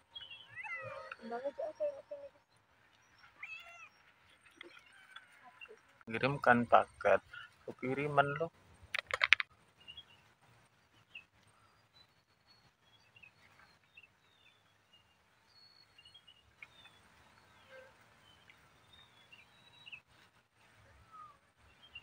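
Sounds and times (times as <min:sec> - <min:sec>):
faint bird chirps: 0:00.0 - 0:08.4, 0:10.9 - 0:22.0.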